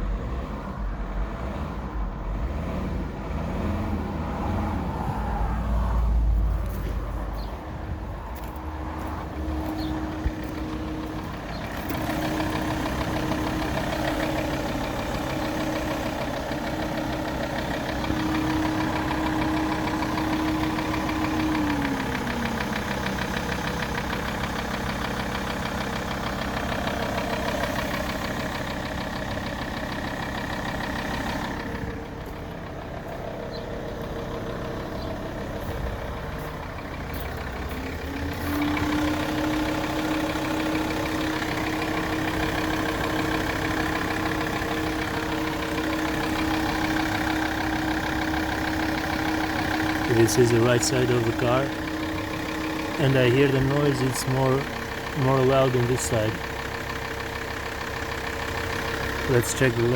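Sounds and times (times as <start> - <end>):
diesel engine idling with knocking: 0.0 - 59.9.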